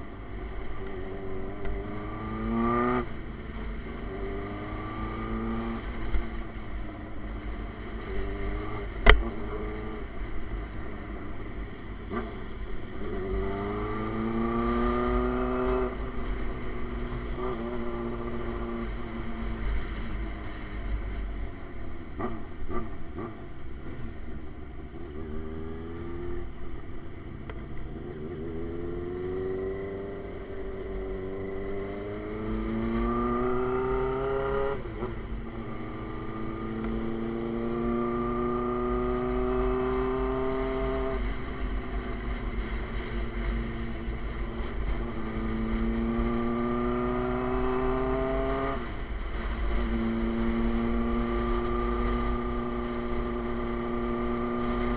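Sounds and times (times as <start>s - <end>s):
low wind rumble: 0.0s - 54.9s
motorcycle accelerating through gears: 0.0s - 54.9s.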